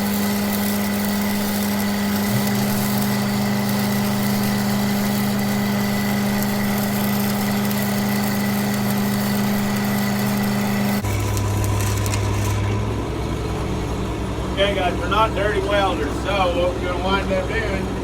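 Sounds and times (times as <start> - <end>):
welding arc crackling: 0.0 - 17.9
welding machine engine running: 0.0 - 18.0.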